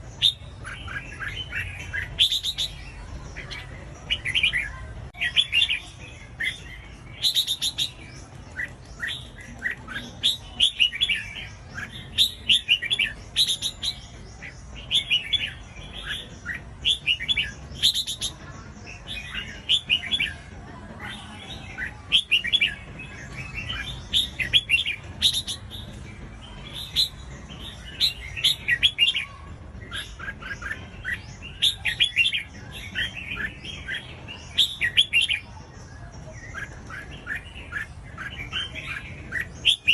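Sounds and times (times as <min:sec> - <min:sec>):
bird singing chirpy warbles: 0:00.0 - 0:39.9.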